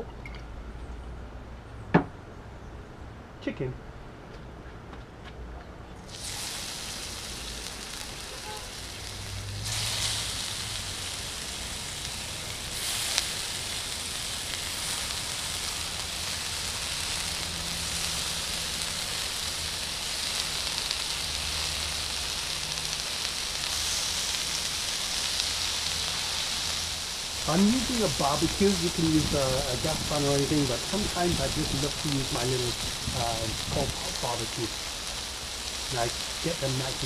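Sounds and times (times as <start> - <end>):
chicken sizzling in hot oil: 6.1 - 37.0.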